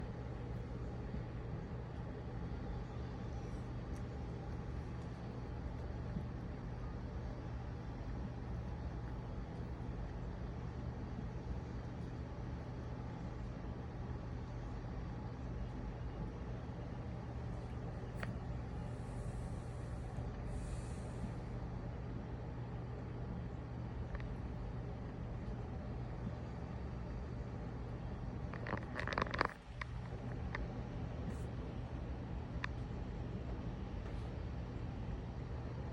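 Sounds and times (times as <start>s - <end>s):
steady low hum and rumble: 0.0s - 35.9s.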